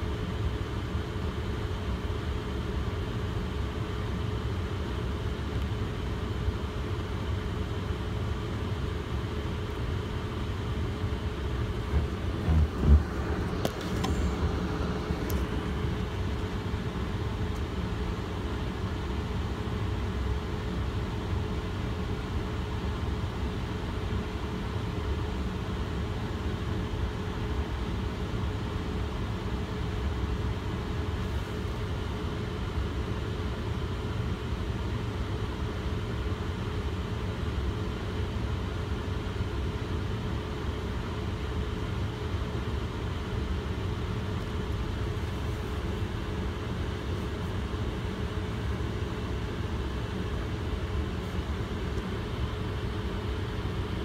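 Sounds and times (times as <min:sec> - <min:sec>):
faint steady hum: 0:00.0 - 0:54.0
vehicle rumble inside car: 0:00.0 - 0:54.0.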